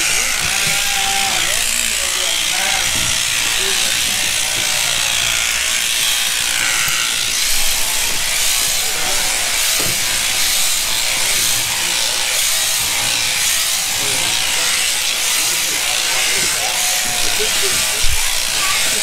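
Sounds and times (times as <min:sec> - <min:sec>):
electric sheep shears running: 0:00.0 - 0:19.0.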